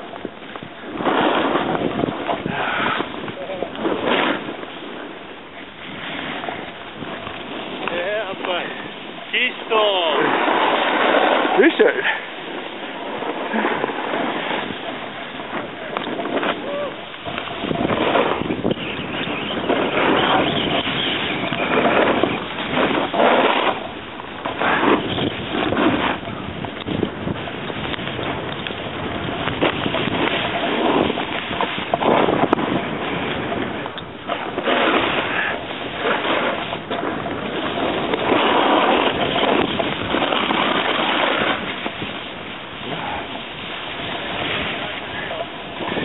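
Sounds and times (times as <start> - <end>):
snowboard scraping snow: 0.0 - 46.0
wind rushing over microphone: 0.0 - 46.0.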